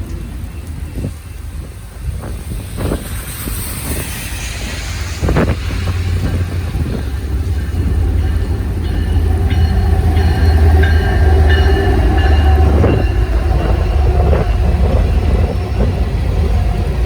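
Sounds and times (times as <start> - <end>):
metallic wheel and rail tones: 0.0 - 17.0
train passing: 0.0 - 17.0.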